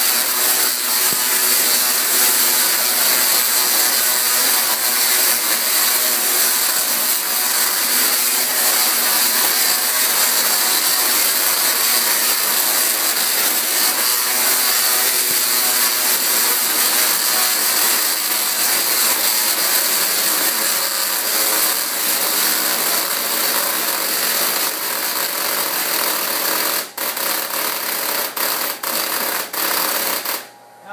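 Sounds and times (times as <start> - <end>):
tesla coil buzzing sparks: 0.0 - 30.5.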